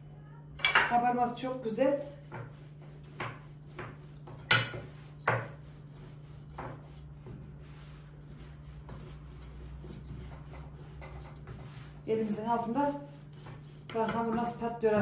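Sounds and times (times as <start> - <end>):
rolling pin rolling dough: 1.8 - 15.0.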